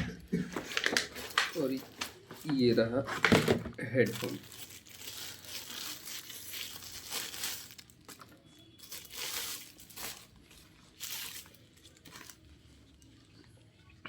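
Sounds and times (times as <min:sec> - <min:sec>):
packaging crinkling and rustling: 0:00.4 - 0:13.7.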